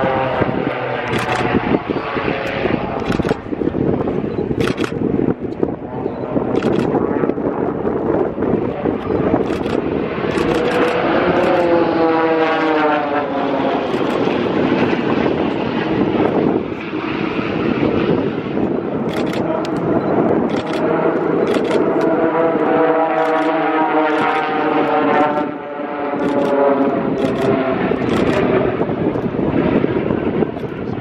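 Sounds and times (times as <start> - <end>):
propeller airplane flying past: 0.0 - 31.0.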